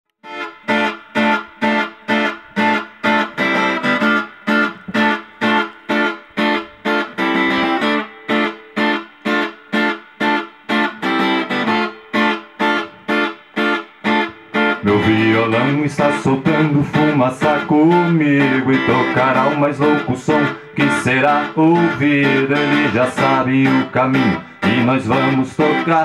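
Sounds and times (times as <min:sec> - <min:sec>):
guitar strumming choppy chords: 0:00.2 - 0:26.0.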